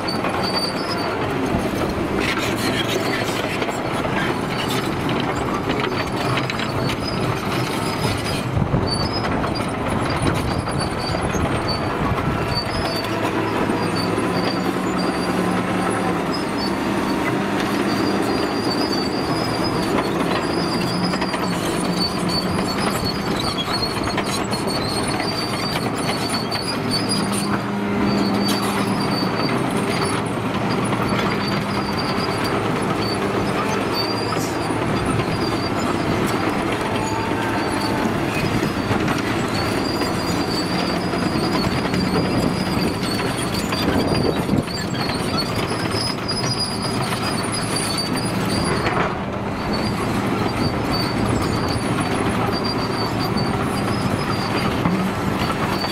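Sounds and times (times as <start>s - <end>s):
diesel engine running: 0.0s - 55.9s
high track squeal: 0.0s - 55.9s
steel tracks clanking: 0.0s - 55.9s.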